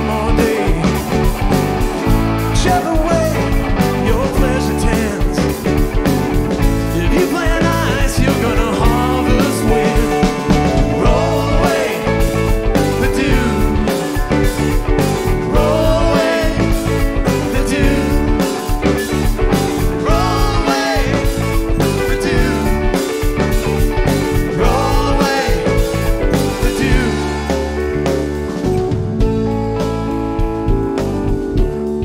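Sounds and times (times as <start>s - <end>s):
lead guitar melody: 0.0s - 32.0s
psychedelic rock band jamming: 0.0s - 32.0s.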